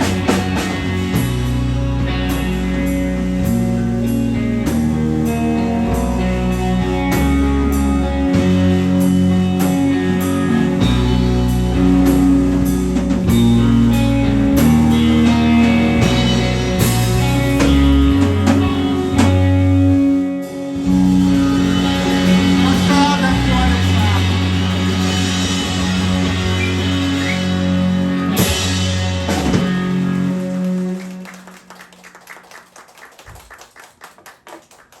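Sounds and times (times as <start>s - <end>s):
live rock band: 0.0s - 34.1s.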